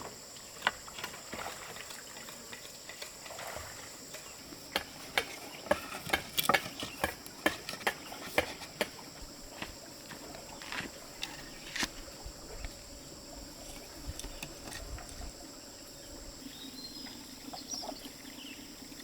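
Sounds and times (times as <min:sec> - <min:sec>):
insect drone: 0:00.0 - 0:19.0.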